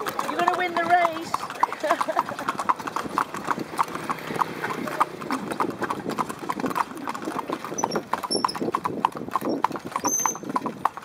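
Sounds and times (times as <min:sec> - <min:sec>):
horse hooves clip-clopping on pavement: 0:00.0 - 0:11.0.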